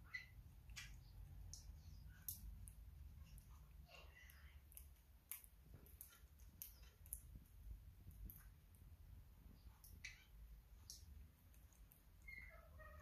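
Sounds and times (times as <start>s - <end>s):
faint sharp clicks and taps: 0.6s - 12.3s.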